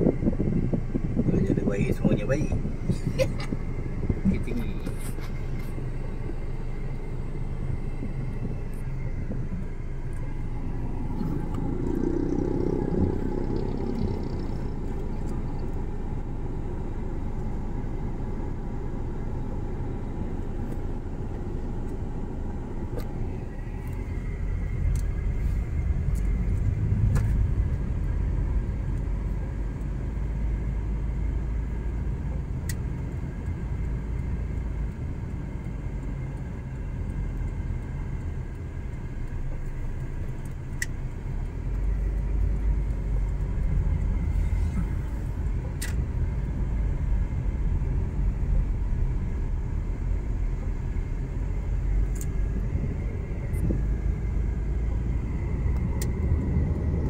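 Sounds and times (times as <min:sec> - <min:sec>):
tyre and engine rumble: 0:00.0 - 0:57.0.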